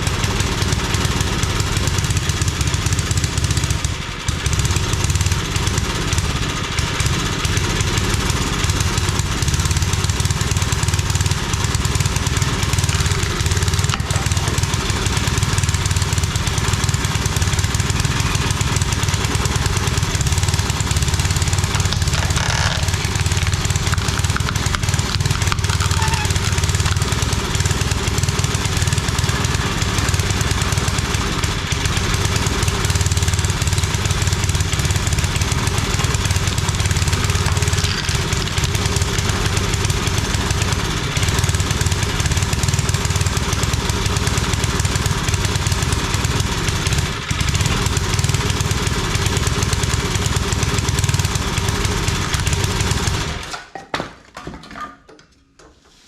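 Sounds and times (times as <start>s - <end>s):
log splitter engine running: 0.0s - 53.7s.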